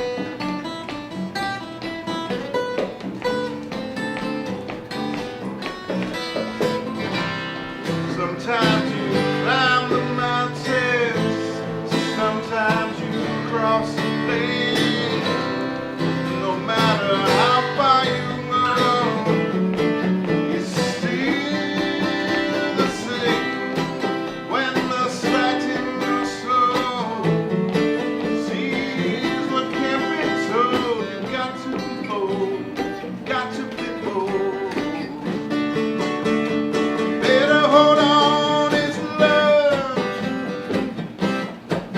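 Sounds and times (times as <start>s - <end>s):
strummed acoustic guitar: 0.0s - 41.9s.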